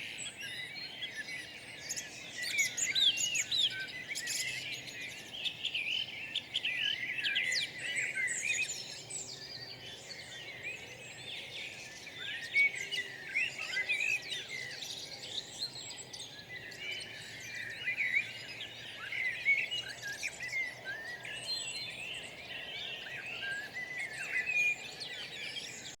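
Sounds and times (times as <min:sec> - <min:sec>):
birds chorus chirping: 0:00.0 - 0:26.0.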